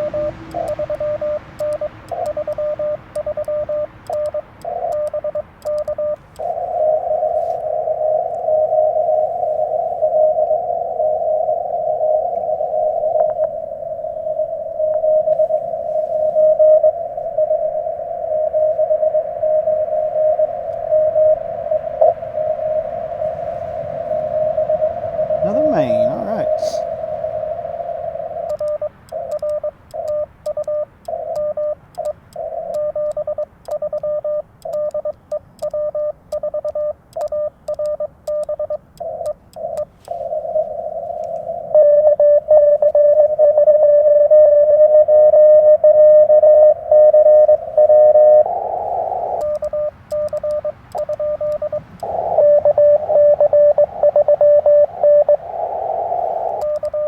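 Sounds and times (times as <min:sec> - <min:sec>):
morse code beeps: 0:00.0 - 0:11.4, 0:14.6 - 0:21.4, 0:24.1 - 0:26.8, 0:28.2 - 0:57.0
different-pitched signal bursts: 0:00.0 - 0:57.0.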